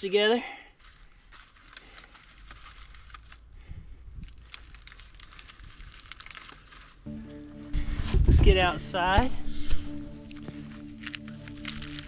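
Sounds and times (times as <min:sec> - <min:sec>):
tinder rustling and crackling: 0:00.0 - 0:12.0.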